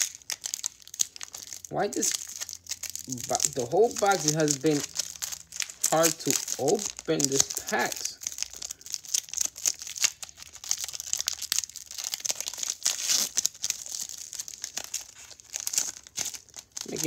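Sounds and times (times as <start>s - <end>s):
foil wrapper crinkling and tearing: 0.0s - 17.0s.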